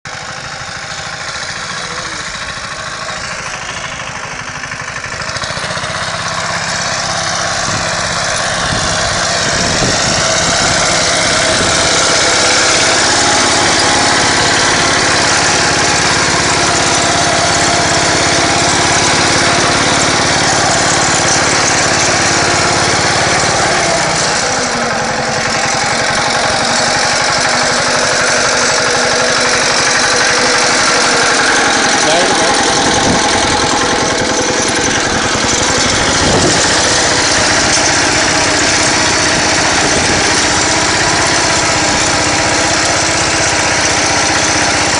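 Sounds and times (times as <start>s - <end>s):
walk-behind tractor engine running: 0.0s - 44.9s.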